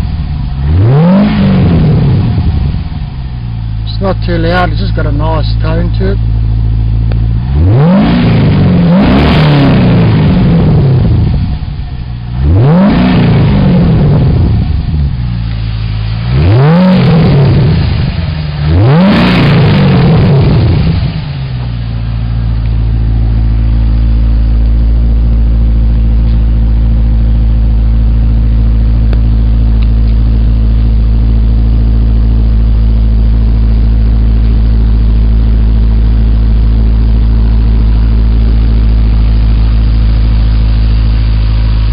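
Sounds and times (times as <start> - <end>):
car engine idling: 0.0 - 41.9
car engine revving: 0.0 - 41.9.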